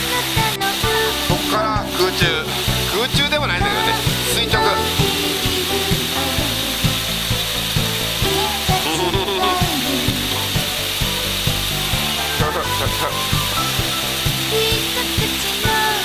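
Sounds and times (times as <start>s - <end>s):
music with thumping beat: 0.0s - 16.0s
steady hiss: 0.0s - 16.0s.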